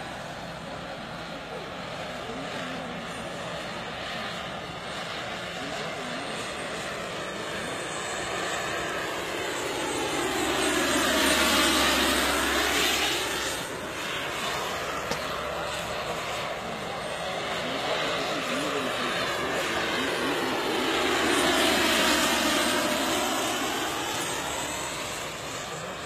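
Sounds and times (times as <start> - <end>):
model helicopter rotor and engine: 0.0 - 26.0.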